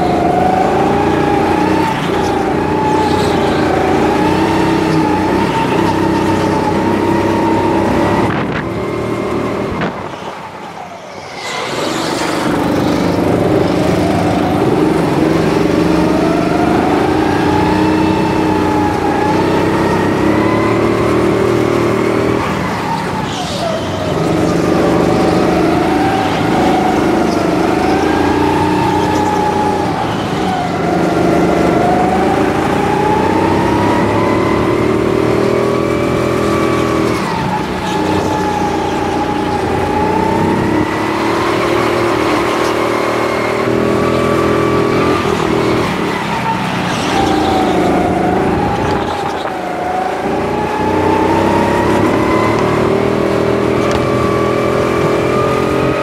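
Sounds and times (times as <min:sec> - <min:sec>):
go-kart motor revving: 0:00.0 - 0:56.0.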